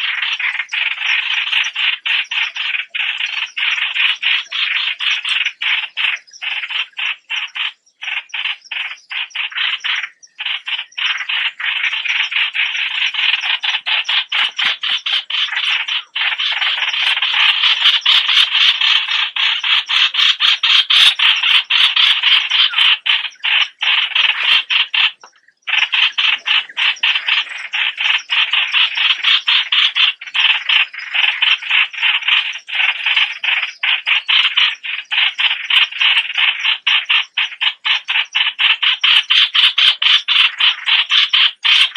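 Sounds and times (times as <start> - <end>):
small bird calling: 0.0 - 41.9.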